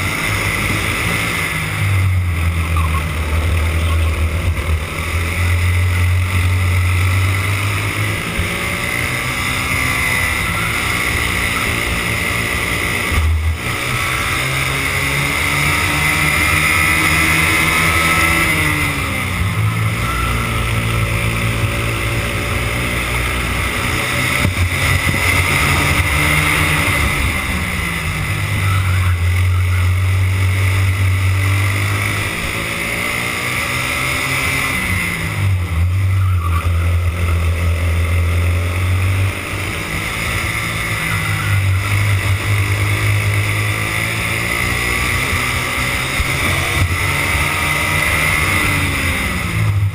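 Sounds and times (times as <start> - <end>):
kart engine accelerating: 0.0 - 49.9.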